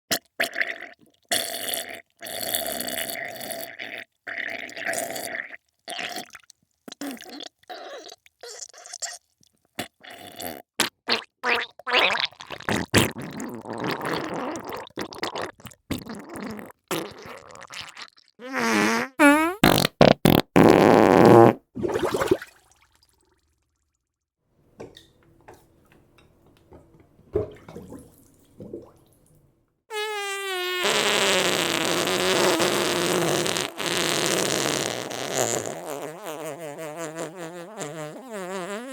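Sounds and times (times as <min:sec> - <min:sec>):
farts and wet diarrhoea sounds: 0:00.1 - 0:22.6, 0:29.9 - 0:38.9.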